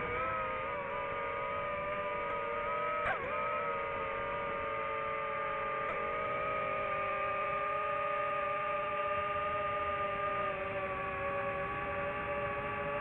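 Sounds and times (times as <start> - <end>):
hum of held tones: 0.0 - 13.0.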